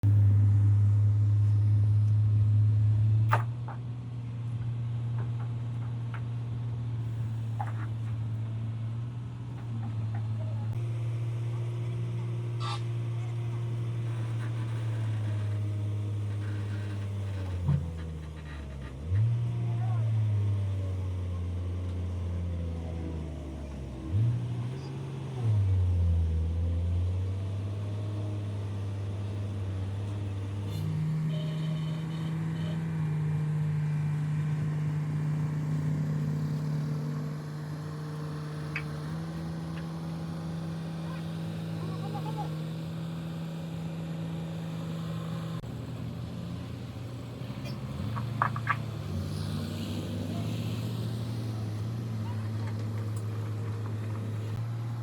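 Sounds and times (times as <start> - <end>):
heavy machinery engine running: 0.0 - 55.0.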